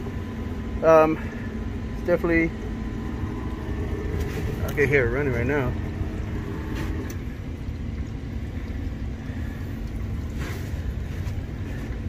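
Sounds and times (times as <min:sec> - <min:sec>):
condensate pump humming: 0:00.0 - 0:12.0
low rumble: 0:00.0 - 0:12.0.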